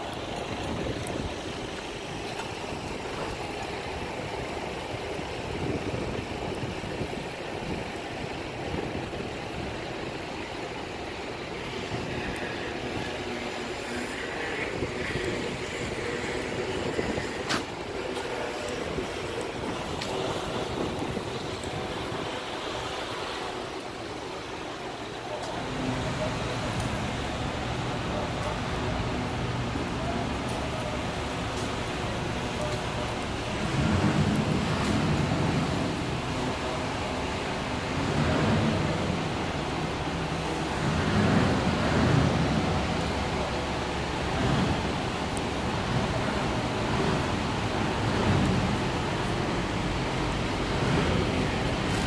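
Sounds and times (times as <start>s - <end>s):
outdoor background rush: 0.0s - 52.0s
wind buffeting microphone: 0.0s - 52.0s.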